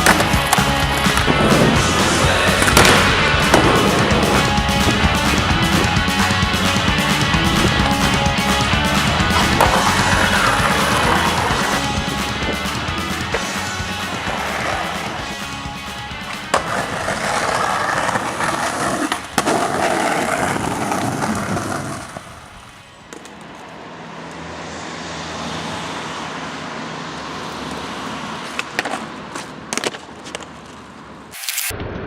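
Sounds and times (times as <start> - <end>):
skateboard clacking: 0.0 - 23.8, 27.6 - 31.3
skateboard wheels rolling: 0.0 - 24.7, 26.1 - 31.7.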